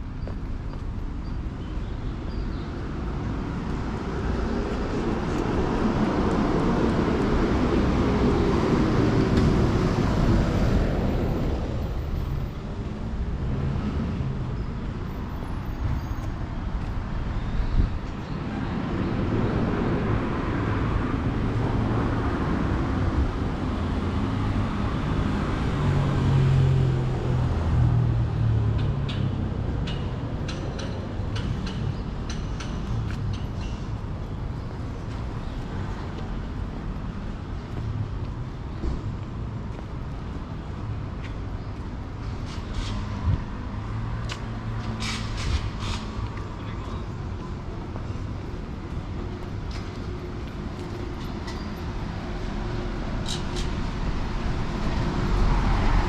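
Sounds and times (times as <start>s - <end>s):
motor vehicles passing: 2.5s - 56.0s.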